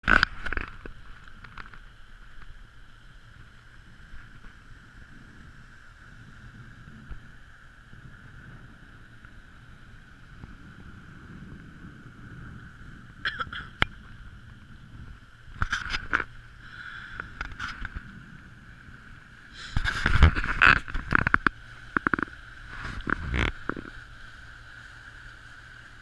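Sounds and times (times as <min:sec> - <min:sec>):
constant high hum: 0:00.0 - 0:26.0
wind rumble on microphone: 0:00.0 - 0:26.0.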